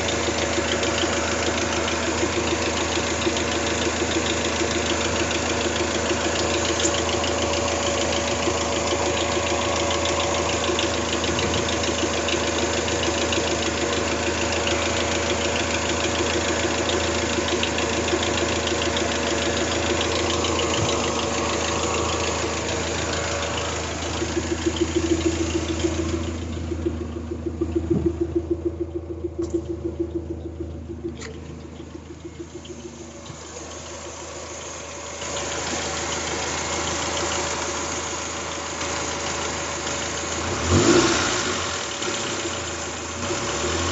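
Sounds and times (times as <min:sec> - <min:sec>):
car engine running: 0:00.0 - 0:43.9
engine ticking rattle: 0:00.0 - 0:43.9.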